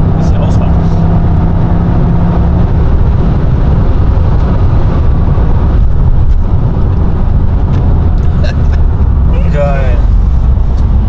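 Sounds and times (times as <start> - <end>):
car engine and tyre rumble: 0.0 - 11.0
wind rush: 0.0 - 11.0.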